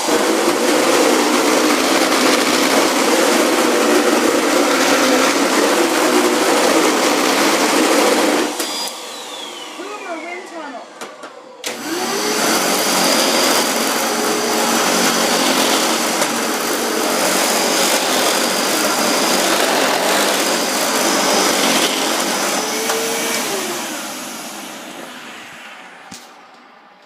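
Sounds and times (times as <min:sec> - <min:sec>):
vacuum cleaner whine: 0:00.0 - 0:27.0.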